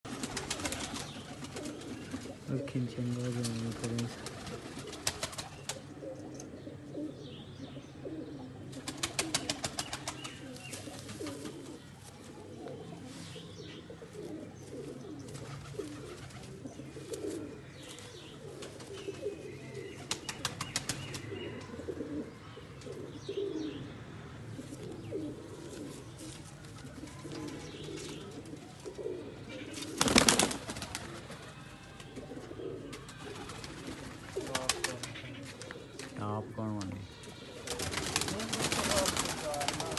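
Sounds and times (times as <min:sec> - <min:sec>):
pigeons cooing: 0:00.1 - 0:36.2, 0:37.0 - 0:39.9.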